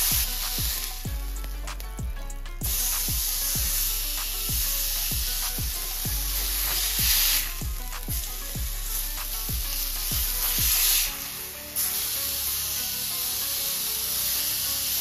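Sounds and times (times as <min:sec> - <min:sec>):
meat patty sizzling in skillet: 0:00.0 - 0:01.8, 0:02.6 - 0:15.0
background music with steady beat: 0:00.0 - 0:15.0.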